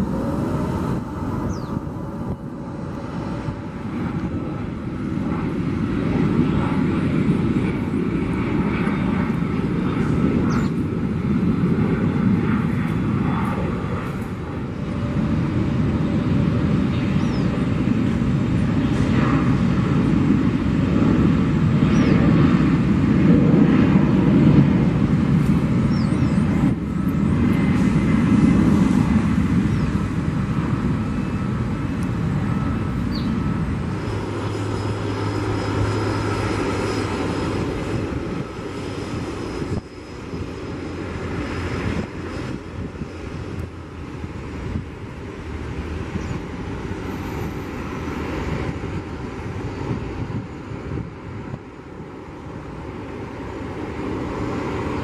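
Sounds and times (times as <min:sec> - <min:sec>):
aircraft engines running: 0:00.0 - 0:55.0
steady low hum: 0:00.0 - 0:55.0.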